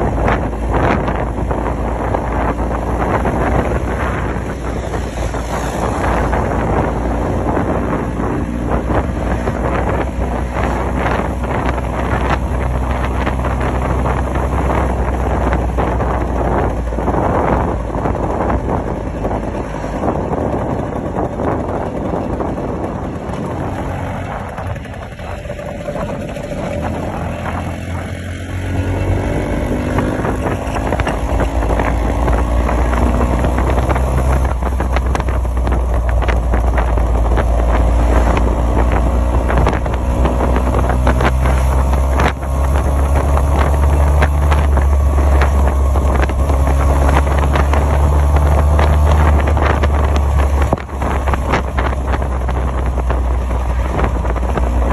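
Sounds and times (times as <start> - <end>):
scooter engine accelerating: 0.0 - 54.9
wind rumbling on microphone: 0.0 - 54.9.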